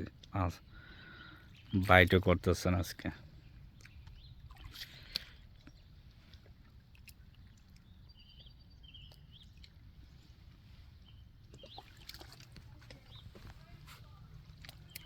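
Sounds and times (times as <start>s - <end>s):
faint songbird chirps: 0.3s - 15.0s.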